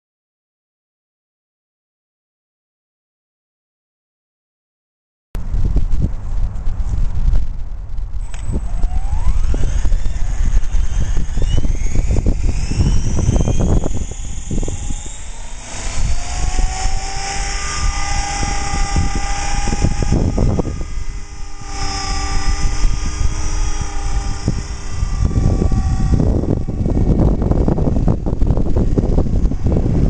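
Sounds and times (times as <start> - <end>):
model helicopter rotor whine: 5.4 - 30.0
wind buffeting microphone: 5.4 - 30.0.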